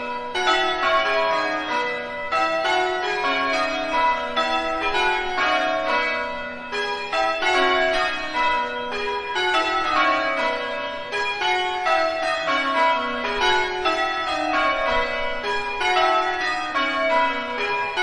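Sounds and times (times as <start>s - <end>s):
church bells pealing: 0.0s - 18.0s.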